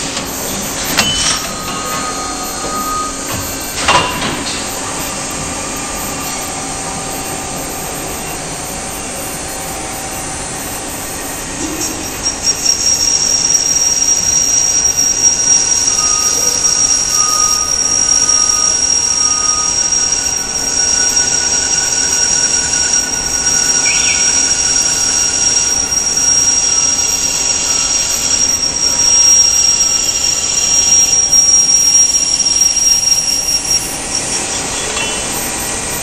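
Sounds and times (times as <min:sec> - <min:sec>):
high steady machine whine: 0:00.0 - 0:36.0
lathe machine noise: 0:00.0 - 0:36.0.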